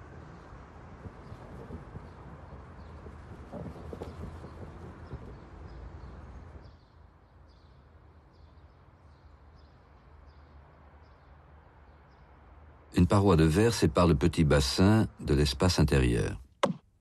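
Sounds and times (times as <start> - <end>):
small birds chirping: 0.0 - 16.3
outdoor background noise: 0.0 - 17.0.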